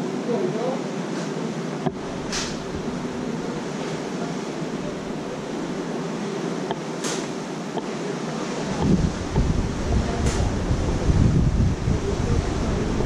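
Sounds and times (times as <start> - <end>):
wind: 0.0 - 13.0
sea rushing: 0.9 - 13.0.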